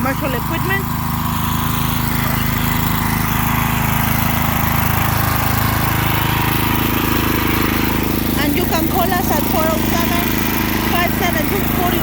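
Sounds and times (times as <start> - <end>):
pressure washer engine running: 0.0 - 12.0.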